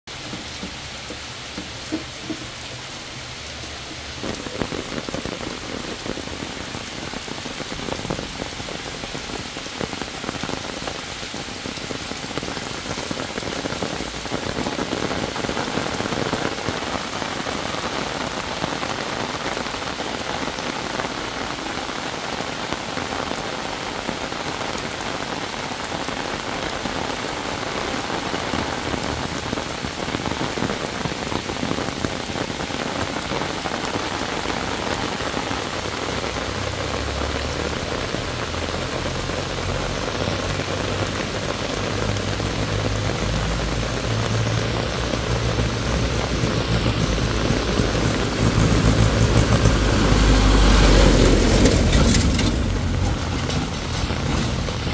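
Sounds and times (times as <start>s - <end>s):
heavy rain on leaves: 0.0s - 54.9s.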